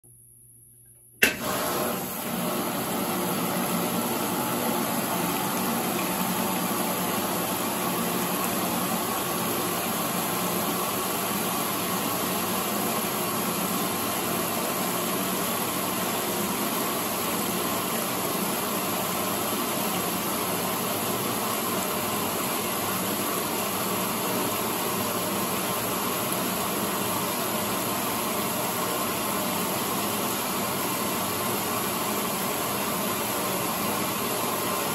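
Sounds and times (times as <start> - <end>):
washing machine running: 1.2 - 34.9.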